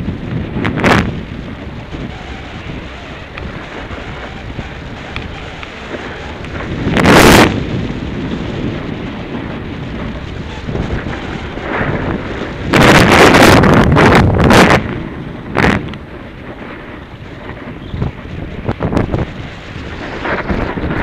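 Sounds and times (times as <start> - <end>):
wind rushing over microphone: 0.0 - 21.0
skis scraping on packed snow: 0.4 - 21.0.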